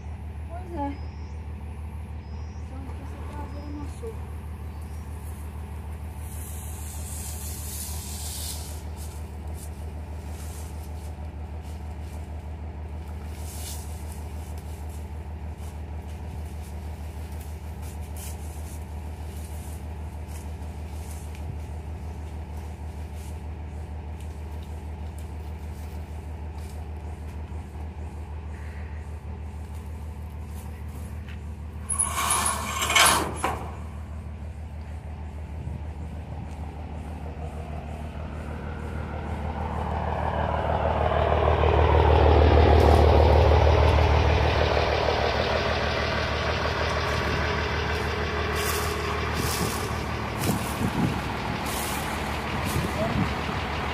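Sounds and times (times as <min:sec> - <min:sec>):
truck engine droning: 0:00.0 - 0:53.9.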